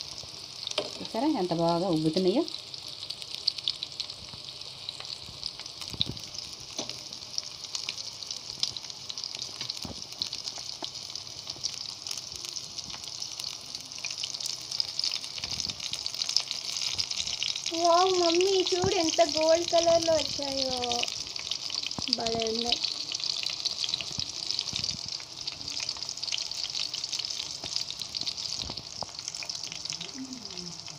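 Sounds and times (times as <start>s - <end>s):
fish sizzling in hot oil: 0.0s - 30.9s.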